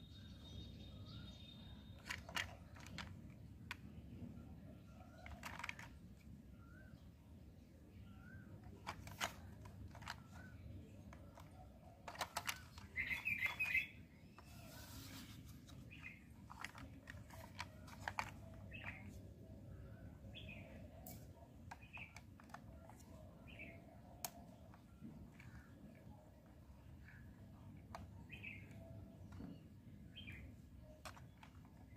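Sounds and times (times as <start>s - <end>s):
small birds chirping: 0.0s - 31.9s
plastic toy car clicking: 1.2s - 4.2s, 4.8s - 6.4s, 8.0s - 14.9s, 15.6s - 19.3s, 20.4s - 31.9s.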